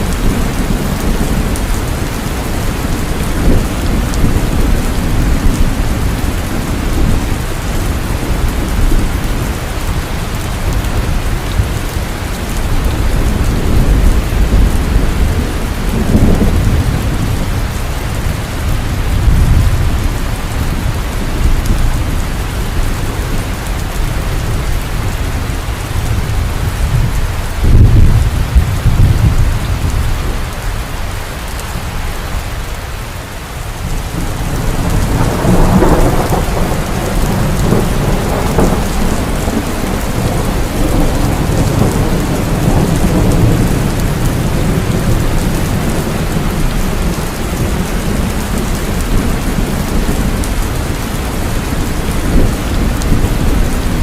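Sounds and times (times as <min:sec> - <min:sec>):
rolling thunder: 0:00.0 - 0:30.9, 0:33.8 - 0:54.0
heavy rain: 0:00.0 - 0:54.0.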